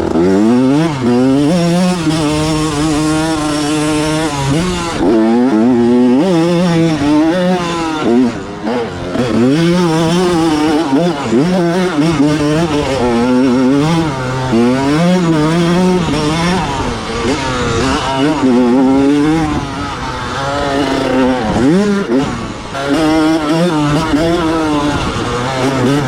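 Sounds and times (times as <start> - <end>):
two-stroke engine revving: 0.0 - 26.0.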